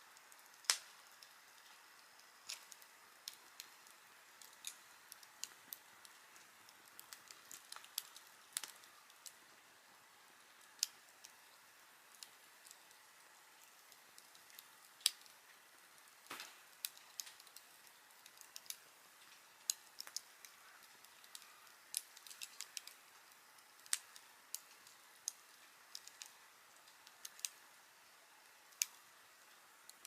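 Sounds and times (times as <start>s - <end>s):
campfire crackling and popping: 0.0s - 30.0s
faint steady hiss: 0.0s - 30.0s.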